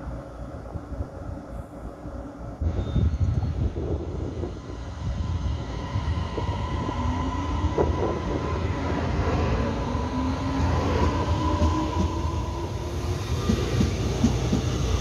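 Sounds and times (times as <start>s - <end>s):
electric train pulling away: 1.6s - 15.0s.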